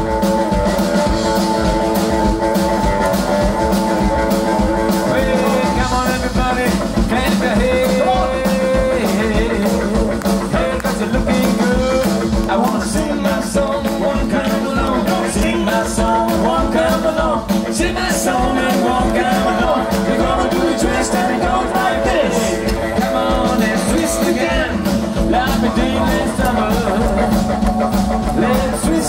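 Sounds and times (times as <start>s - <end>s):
live rock and roll band: 0.0s - 29.0s
steady drum beat: 0.0s - 29.0s.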